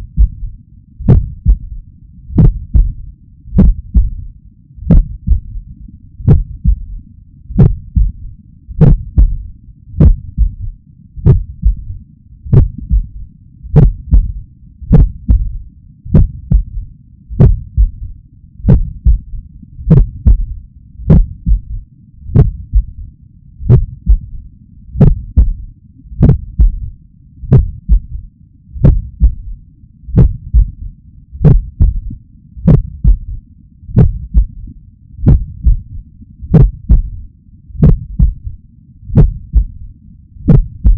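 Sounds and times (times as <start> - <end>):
heartbeat through a stethoscope: 0.0 - 40.9.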